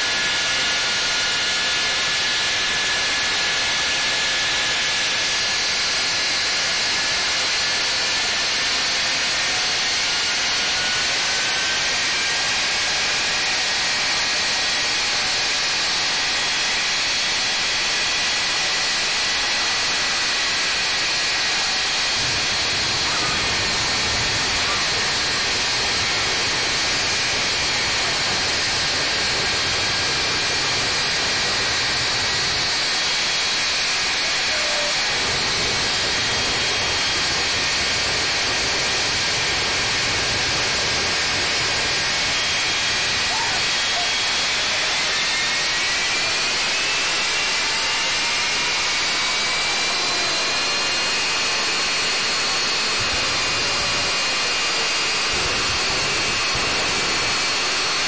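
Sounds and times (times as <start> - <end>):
high turbine whines: 0.0 - 58.0
jet engines hissing: 0.0 - 58.0.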